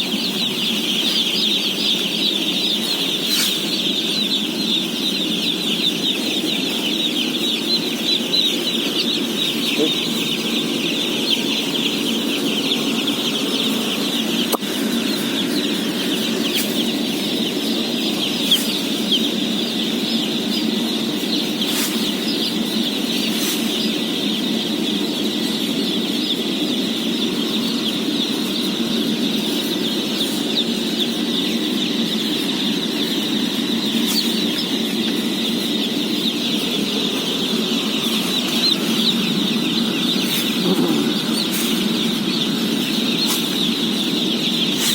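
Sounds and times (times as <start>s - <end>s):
chicks peeping: 0.0s - 44.9s
steady low hum: 0.0s - 44.9s.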